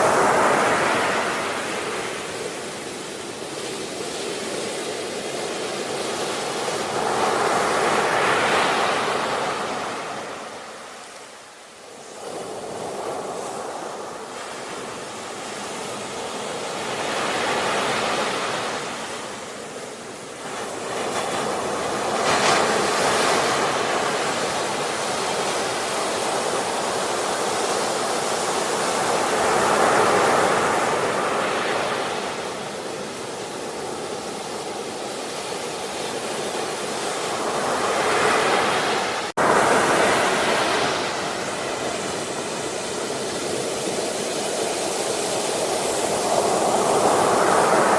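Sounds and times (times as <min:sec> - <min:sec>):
sea waves breaking on shore: 0:00.0 - 0:47.9.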